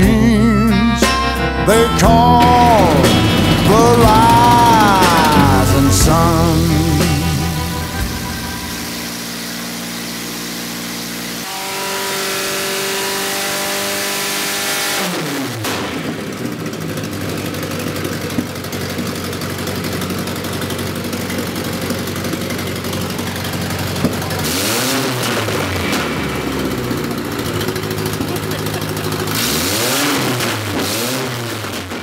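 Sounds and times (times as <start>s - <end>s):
engine running under load: 0.0s - 32.0s.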